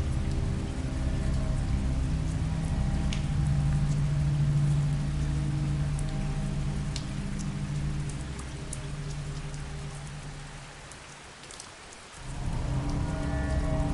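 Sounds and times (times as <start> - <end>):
low steady drone: 0.0 - 11.4, 12.1 - 13.9
rain falling: 0.0 - 13.9.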